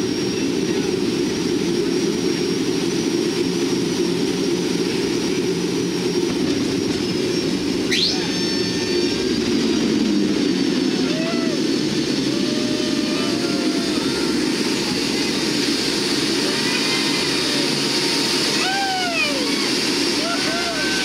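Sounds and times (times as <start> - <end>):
rising whine: 0.0 - 21.0
turboprop engines droning: 0.0 - 21.0.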